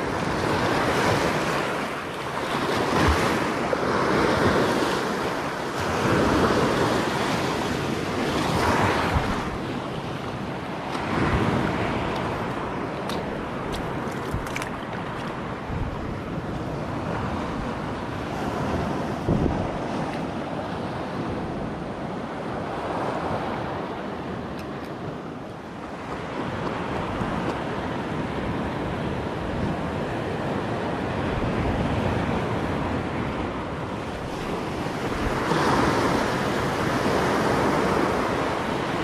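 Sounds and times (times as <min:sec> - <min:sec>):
waves washing over rocks: 0:00.0 - 0:39.0
wind buffeting microphone: 0:00.0 - 0:39.0.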